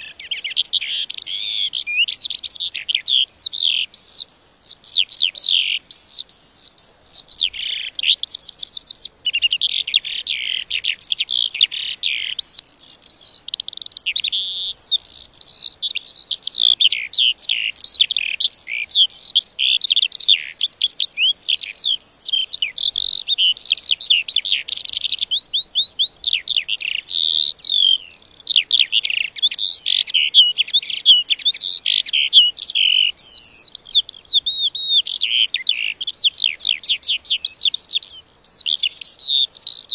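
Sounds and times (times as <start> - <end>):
lark singing: 0.0 - 39.9.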